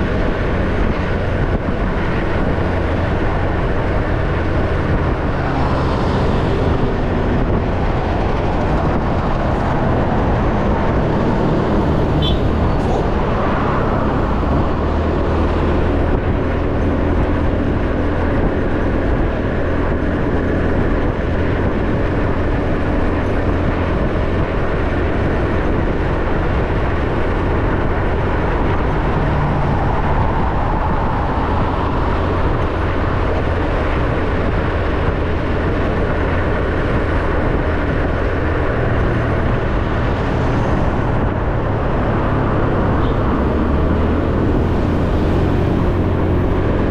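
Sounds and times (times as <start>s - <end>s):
motorbike engine hum: 0.0s - 46.9s
road noise: 0.0s - 46.9s
wind noise: 0.0s - 46.9s.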